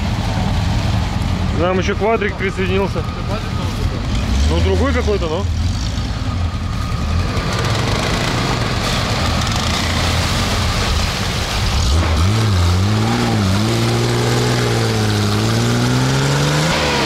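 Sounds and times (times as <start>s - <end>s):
engine rumbling: 0.0s - 17.0s
engine revving: 2.5s - 17.0s.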